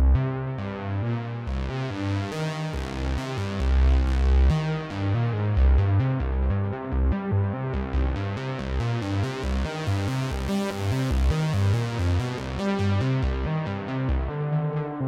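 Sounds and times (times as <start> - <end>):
synthesizer bass notes: 0.0 - 15.0.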